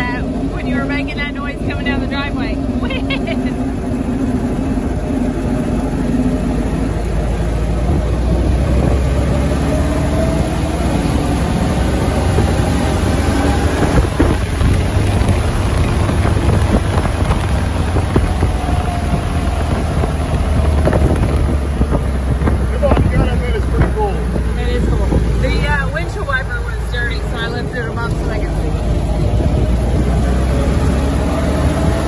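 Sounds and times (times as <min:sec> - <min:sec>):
jeep engine rumbling: 0:00.0 - 0:32.0.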